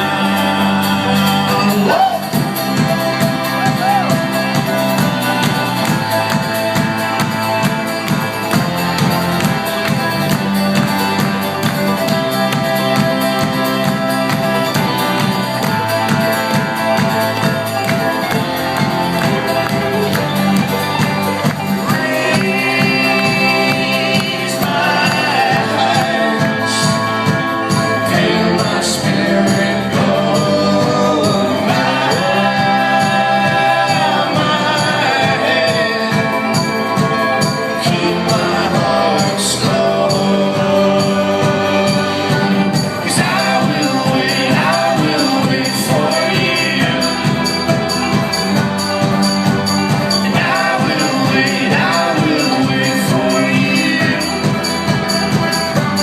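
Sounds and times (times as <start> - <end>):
live folk-rock band: 0.0 - 56.0
voices singing in harmony: 0.0 - 56.0.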